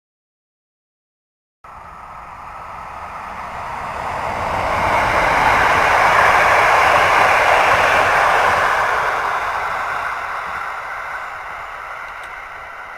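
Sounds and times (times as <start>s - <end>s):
train running noise: 1.7s - 12.9s.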